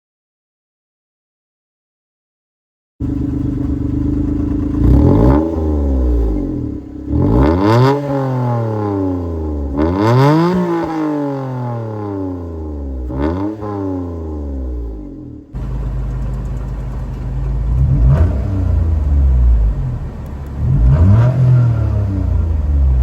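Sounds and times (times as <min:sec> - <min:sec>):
car engine throttle blips: 0:03.0 - 0:23.0.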